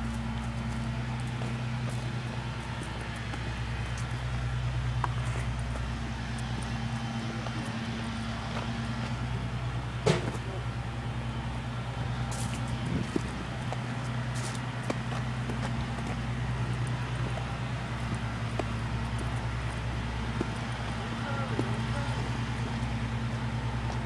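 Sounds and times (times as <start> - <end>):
steady engine hum: 0.0 - 24.0.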